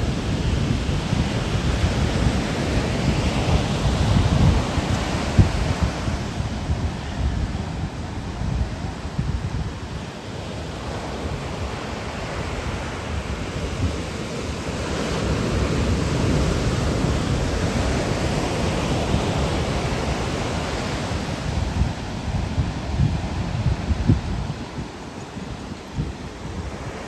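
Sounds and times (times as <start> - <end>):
ocean surf breaking on shore: 0.0 - 27.0
wind rumbling on microphone: 0.0 - 27.0.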